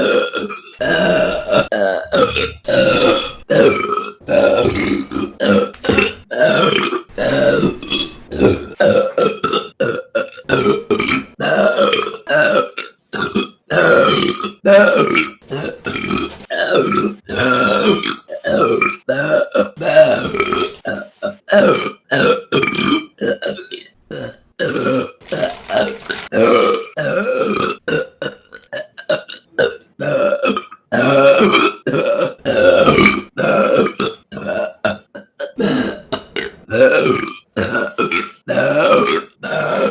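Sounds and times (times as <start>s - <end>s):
woman burping: 0.0s - 39.9s.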